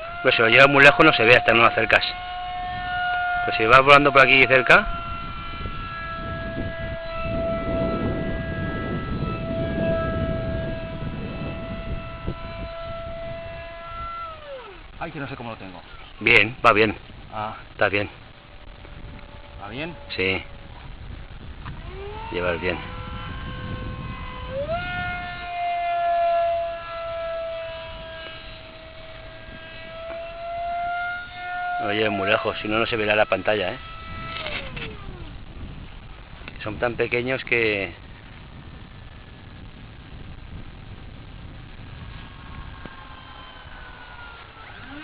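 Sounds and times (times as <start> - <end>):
low rumble: 0.0 - 45.0
model jet fan whining: 0.0 - 45.0.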